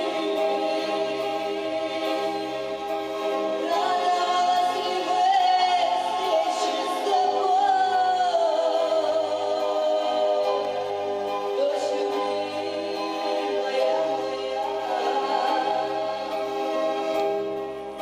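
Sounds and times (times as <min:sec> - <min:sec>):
women singing: 0:00.0 - 0:02.6, 0:03.6 - 0:16.5.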